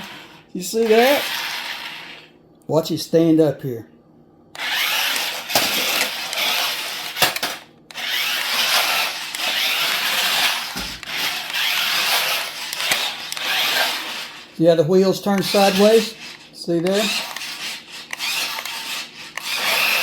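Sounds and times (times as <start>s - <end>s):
toy car motors whirring: 0.0s - 2.3s, 4.6s - 14.6s, 15.2s - 20.0s.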